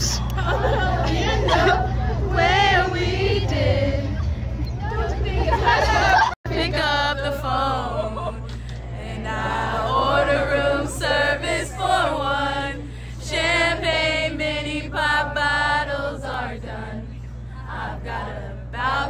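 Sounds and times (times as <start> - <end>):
crowd singing along: 0.0 - 19.0
steady low hum: 0.0 - 19.0.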